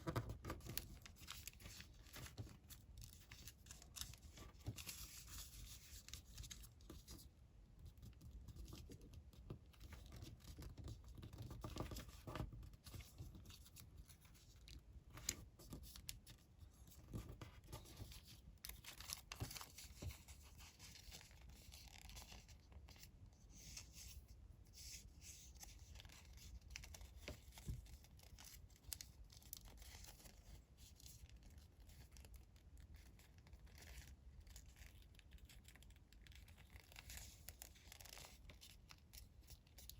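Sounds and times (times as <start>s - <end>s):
paper rustling and crinkling: 0.0s - 7.2s, 9.7s - 39.9s.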